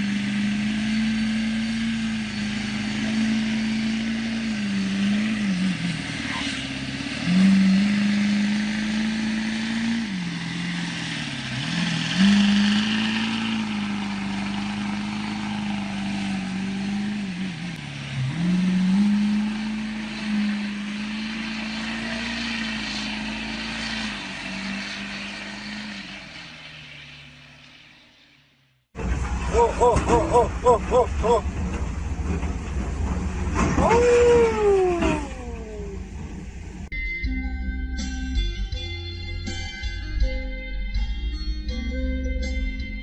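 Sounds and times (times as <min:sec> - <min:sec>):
road and wind noise: 0:00.0 - 0:43.0
vehicle engine running: 0:00.0 - 0:43.0.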